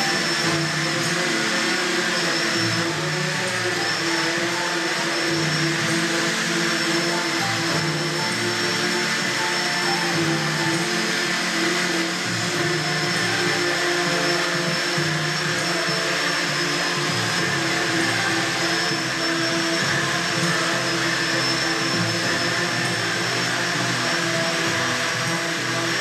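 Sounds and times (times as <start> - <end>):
drone rotors buzzing: 0.0 - 26.0.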